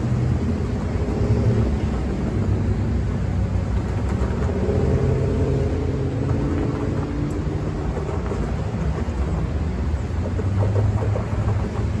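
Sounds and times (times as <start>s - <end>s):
deep vehicle engine: 0.0s - 12.0s
road traffic rumble: 0.0s - 12.0s.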